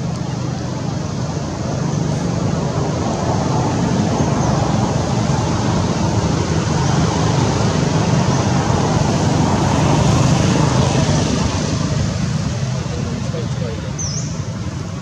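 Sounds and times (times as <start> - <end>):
distant engine rumble: 0.0 - 15.0.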